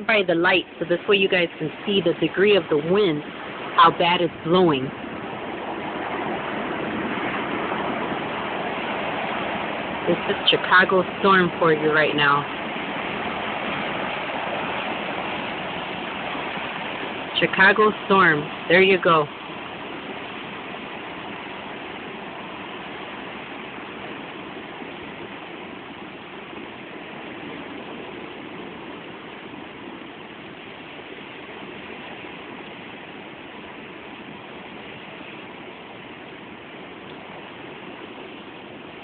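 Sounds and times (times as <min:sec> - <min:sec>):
blizzard wind blowing hard: 0:00.0 - 0:39.0.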